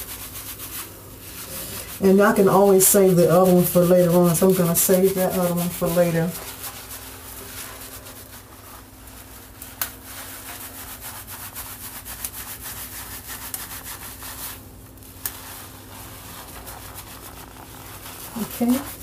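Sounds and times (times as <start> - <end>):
hands scrubbing lathered hair: 0.0 - 19.0.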